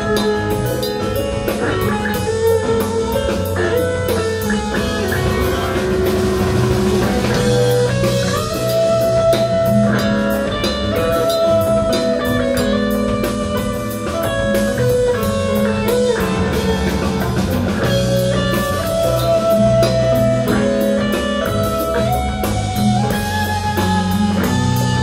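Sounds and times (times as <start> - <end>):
electric guitar: 0.0 - 25.0
live band playing instrumental: 0.0 - 25.0.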